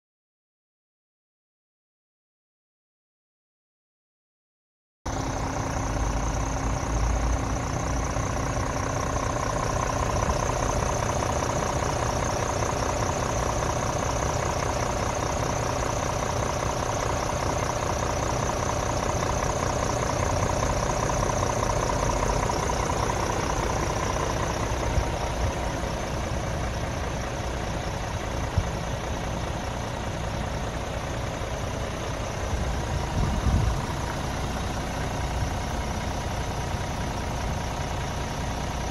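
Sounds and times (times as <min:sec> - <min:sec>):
diesel engine idling: 0:05.1 - 0:38.9.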